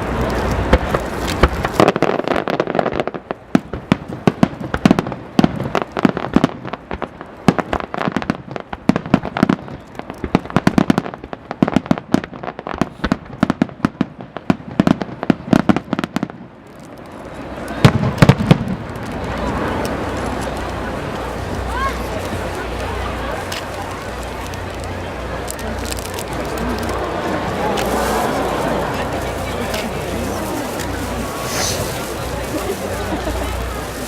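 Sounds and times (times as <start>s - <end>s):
fireworks crackling pops: 0.0s - 34.0s
fireworks rushing: 0.0s - 34.0s
loud fireworks bangs: 0.0s - 34.0s.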